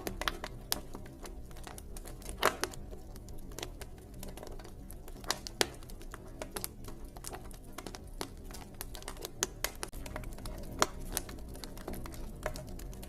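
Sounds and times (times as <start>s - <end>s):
campfire snaps and pops: 0.0s - 13.0s
low fire rumble: 0.0s - 13.0s.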